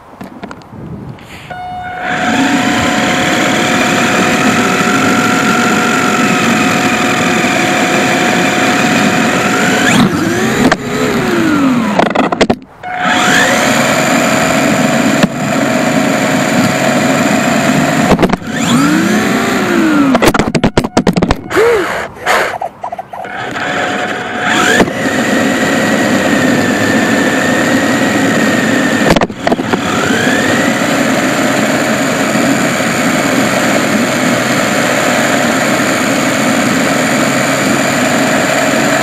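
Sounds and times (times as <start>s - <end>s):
small electric motor whining: 1.4s - 39.0s.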